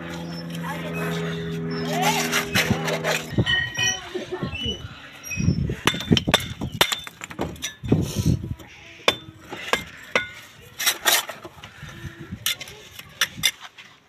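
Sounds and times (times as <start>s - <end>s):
trowel scraping bricks and mortar: 0.0s - 14.0s.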